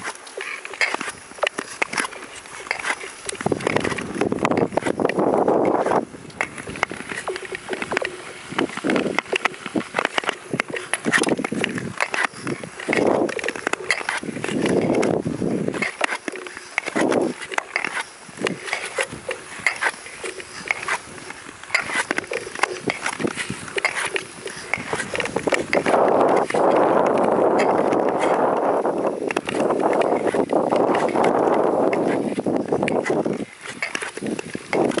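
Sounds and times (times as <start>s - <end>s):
ice skates scraping: 0.0s - 35.0s
lake ice clicking and chirping: 0.0s - 35.0s.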